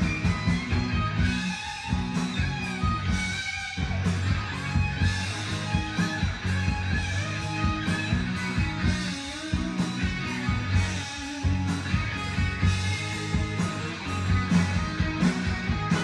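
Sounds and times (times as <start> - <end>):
music with guitar and bass beat: 0.0 - 16.0.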